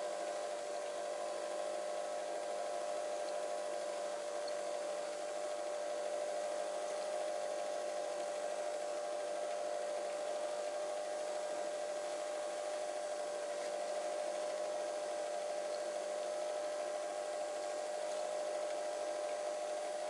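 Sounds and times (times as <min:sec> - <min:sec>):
film projector humming and whirring: 0:00.0 - 0:20.0.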